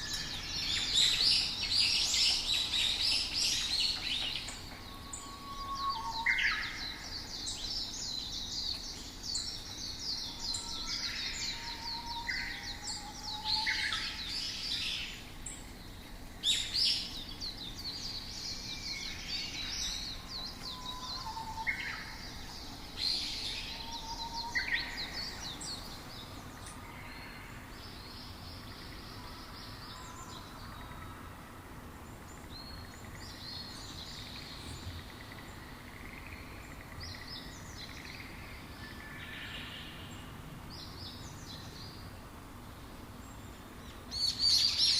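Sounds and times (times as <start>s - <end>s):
outdoor ambience hiss: 0.0s - 44.9s
songbirds chirping and trilling: 0.0s - 44.9s.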